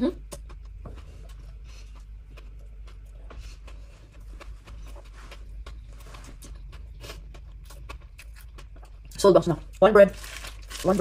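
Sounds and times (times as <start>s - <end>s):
chewing bread mouth sounds: 0.0s - 11.0s
low steady hum: 0.0s - 11.0s.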